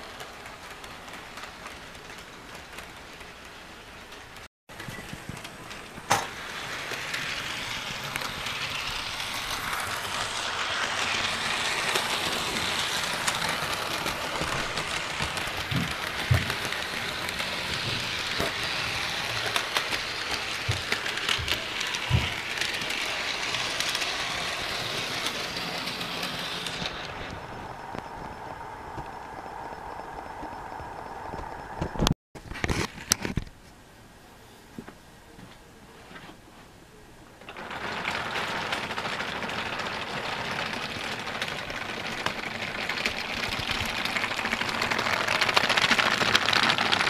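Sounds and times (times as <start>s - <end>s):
model train running on track: 0.0s - 31.7s, 37.4s - 47.0s.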